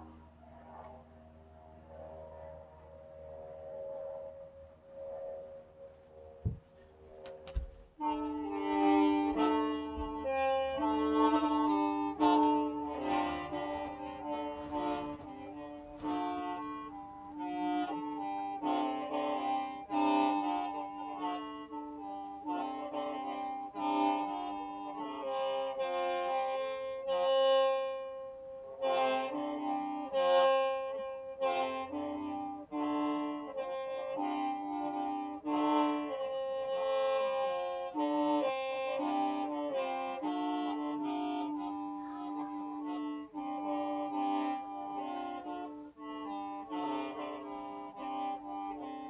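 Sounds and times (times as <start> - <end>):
free-reed mouth organ melody: 0.0 - 49.0.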